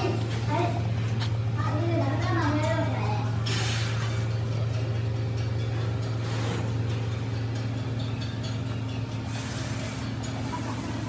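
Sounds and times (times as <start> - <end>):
workshop machine humming: 0.0 - 11.0.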